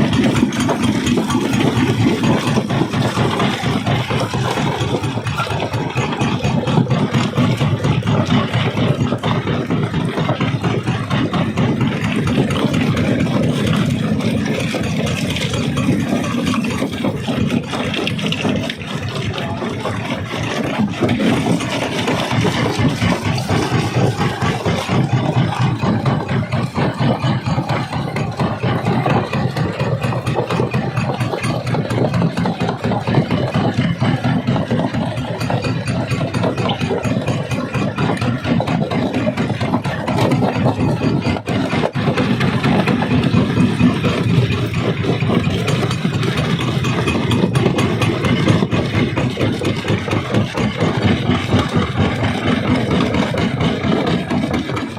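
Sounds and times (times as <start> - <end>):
rock crusher machine drone: 0.0 - 54.9.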